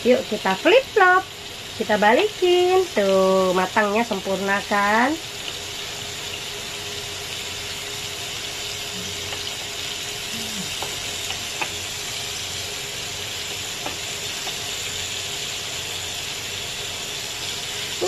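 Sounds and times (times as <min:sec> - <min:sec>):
shrimp sizzling on a grill pan: 0:00.0 - 0:18.0.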